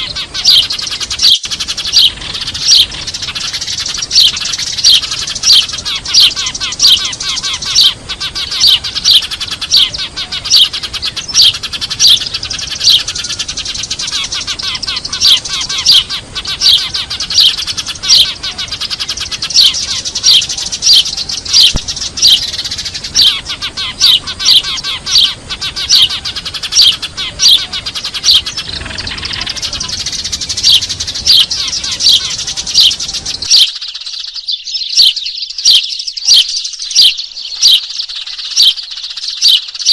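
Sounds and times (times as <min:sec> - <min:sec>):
sparrows chattering: 0:00.0 - 0:39.9.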